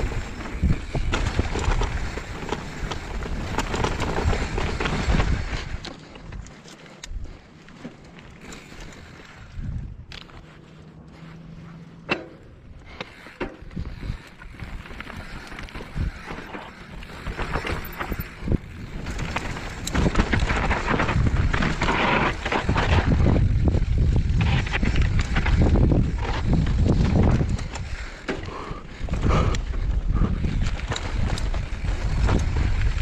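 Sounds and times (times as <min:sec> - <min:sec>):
wind buffeting microphone: 0:00.0 - 0:06.4, 0:08.4 - 0:10.6, 0:12.5 - 0:33.0
bike rattling on rough trail: 0:00.0 - 0:33.0.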